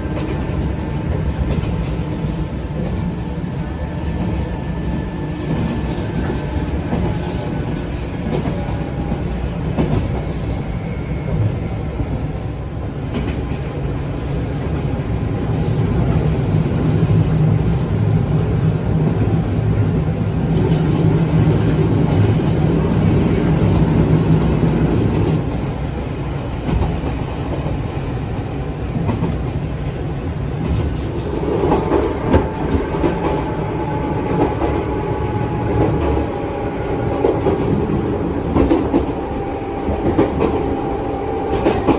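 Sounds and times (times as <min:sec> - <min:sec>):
sharp train clatters: 0:00.0 - 0:41.9
train wheels rumbling on rail: 0:00.0 - 0:41.9.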